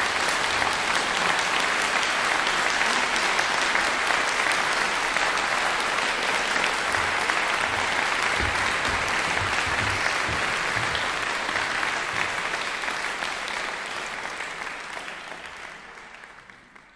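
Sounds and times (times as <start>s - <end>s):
audience applauding: 0.0s - 16.9s.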